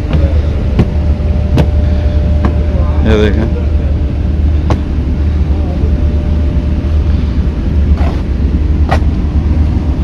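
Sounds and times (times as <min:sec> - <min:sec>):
faint hum: 0:00.0 - 0:10.0
ferry machinery rumble: 0:00.0 - 0:10.0.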